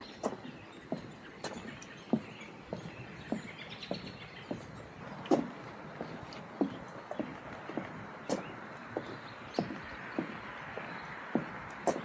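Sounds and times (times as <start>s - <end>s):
footsteps on a trail: 0.0s - 12.0s.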